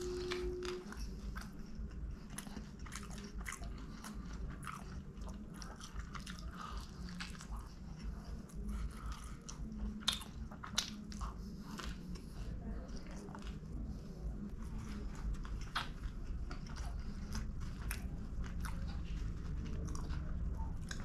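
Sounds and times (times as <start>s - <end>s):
crunchy chewing: 0.0s - 21.0s
steady hum: 0.0s - 21.0s.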